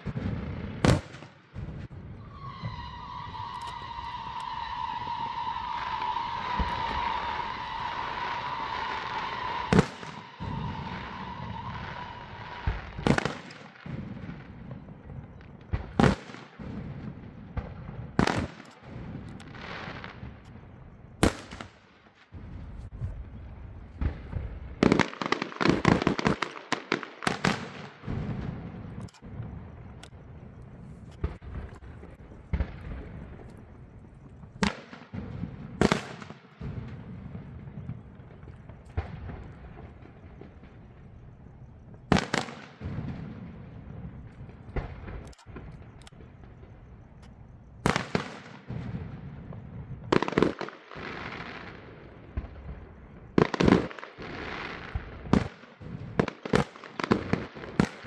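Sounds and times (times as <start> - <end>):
firework shells bursting: 0.0 - 58.0
fireworks rumble and crackle: 0.0 - 58.0
rolling echo: 0.0 - 58.0.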